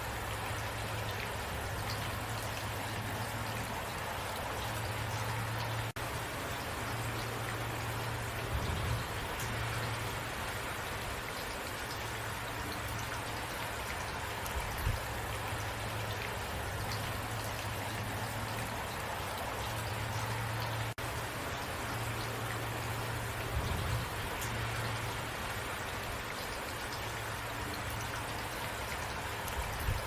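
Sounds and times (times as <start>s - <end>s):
rain falling: 0.0s - 30.0s
raindrop ticks: 4.6s - 10.1s, 11.4s - 30.0s.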